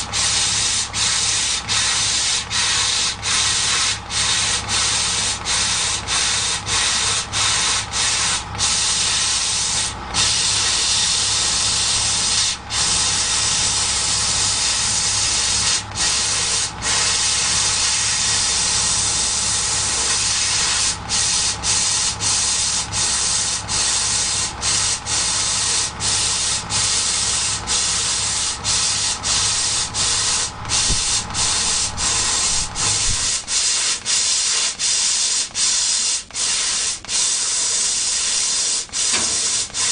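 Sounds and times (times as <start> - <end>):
low machine hum: 0.0 - 33.9
air hissing from cutting head: 0.0 - 39.9.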